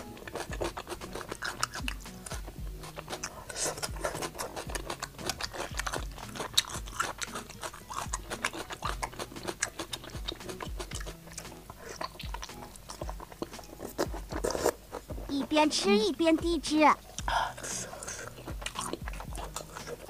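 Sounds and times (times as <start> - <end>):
person chewing crunchy food: 0.0 - 15.3, 17.0 - 20.0
background music with bass line: 0.0 - 20.0.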